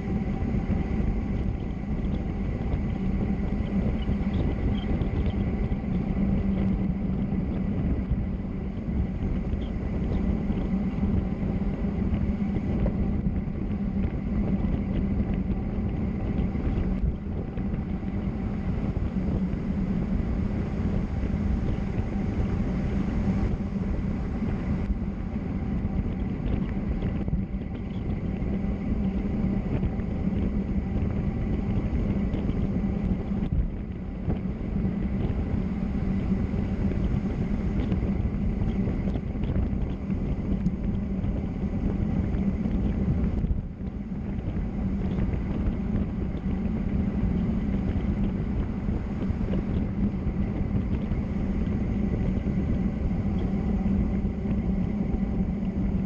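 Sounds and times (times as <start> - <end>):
steady hum: 0.0 - 56.0
wind buffeting microphone: 0.0 - 56.0.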